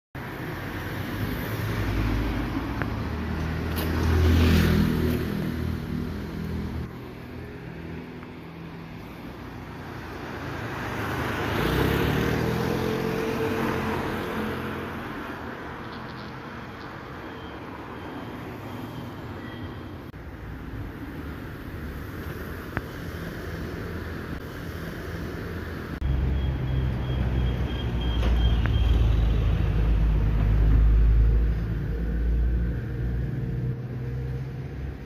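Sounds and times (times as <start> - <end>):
vehicles driving past: 0.2 - 35.0.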